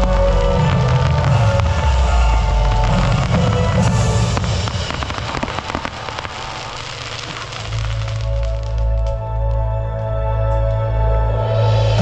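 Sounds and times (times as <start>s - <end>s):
crackling fireworks: 0.0s - 9.7s
low rumbling bursts: 0.0s - 12.0s.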